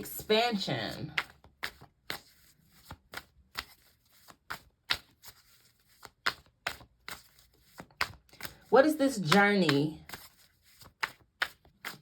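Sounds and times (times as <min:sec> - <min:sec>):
cards being shuffled: 0:01.0 - 0:12.0.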